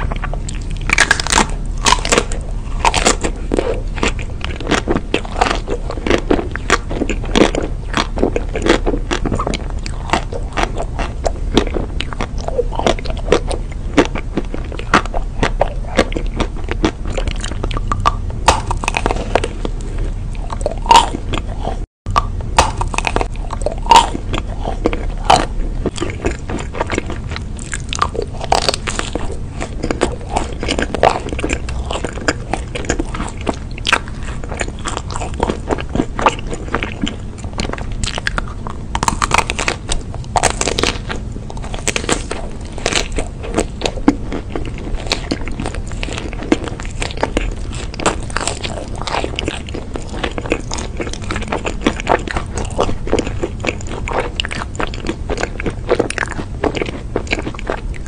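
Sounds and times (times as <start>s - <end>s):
woman biting and chewing: 0.0s - 58.0s.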